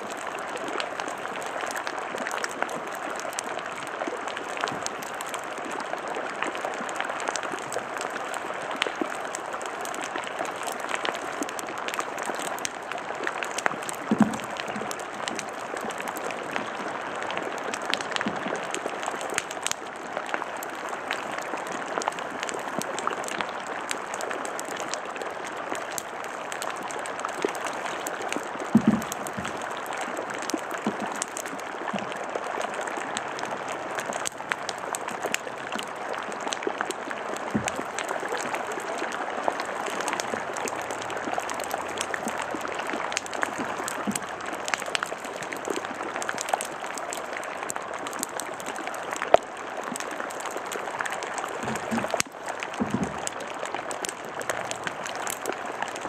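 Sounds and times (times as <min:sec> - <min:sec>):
ice crackling and fizzing: 0:00.0 - 0:56.0.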